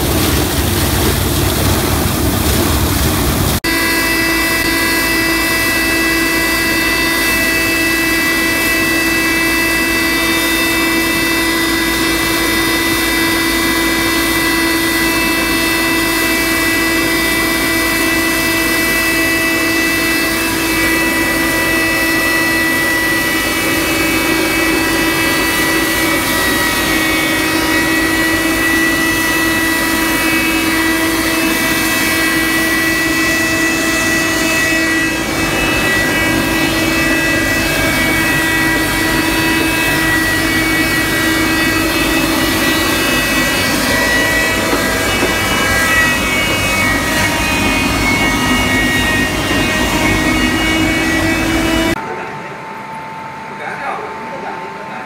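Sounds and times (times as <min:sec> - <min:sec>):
machine hum: 0:00.0 - 0:55.0
mill machine whine: 0:00.0 - 0:55.0.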